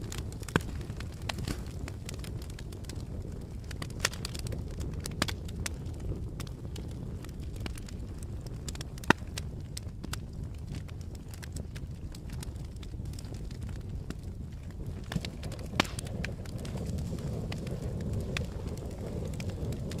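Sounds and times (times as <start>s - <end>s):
fire crackles and pops: 0.0s - 20.0s
low rush of flame: 0.0s - 20.0s.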